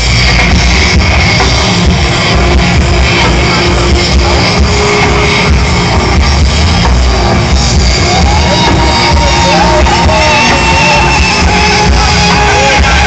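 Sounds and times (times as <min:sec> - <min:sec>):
drums: 0:00.0 - 0:13.0
electric guitar: 0:00.0 - 0:13.0.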